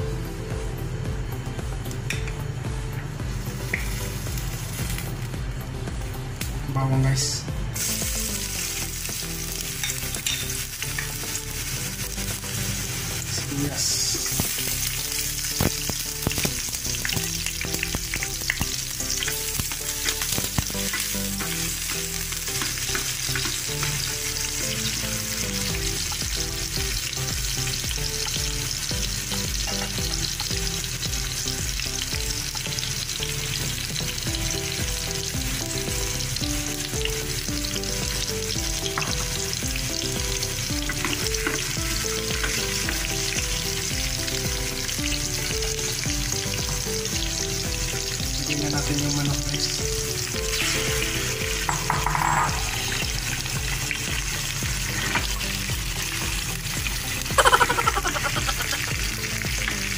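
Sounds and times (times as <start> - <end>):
garlic and onion sizzling in oil: 0.0 - 59.9.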